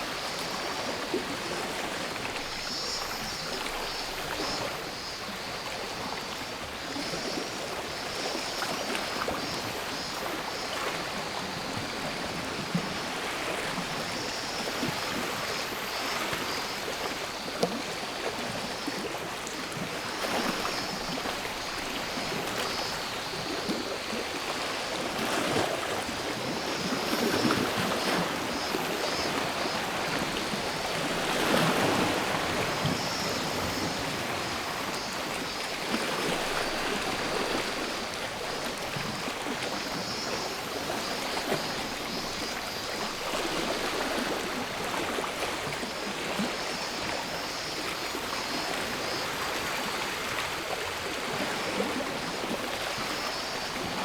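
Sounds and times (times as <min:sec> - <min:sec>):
sea waves washing ashore: 0:00.0 - 0:54.0
cicadas buzzing: 0:00.1 - 0:51.0, 0:52.4 - 0:54.0.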